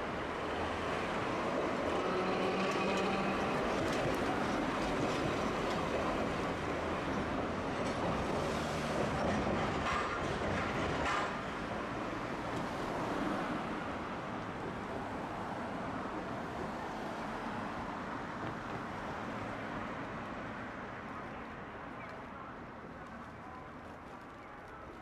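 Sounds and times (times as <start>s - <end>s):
streetcar rumbling on track: 0.0s - 25.0s.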